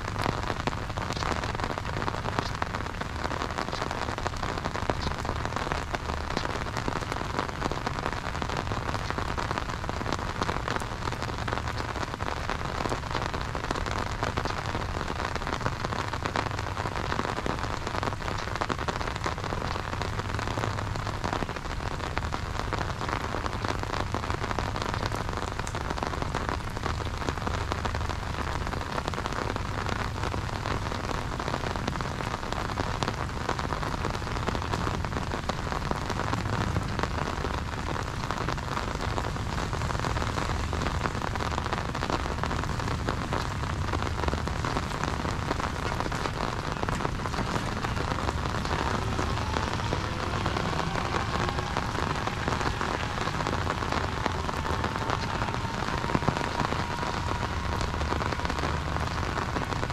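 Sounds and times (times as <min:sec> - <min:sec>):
rain on umbrella and road: 0:00.0 - 0:59.9.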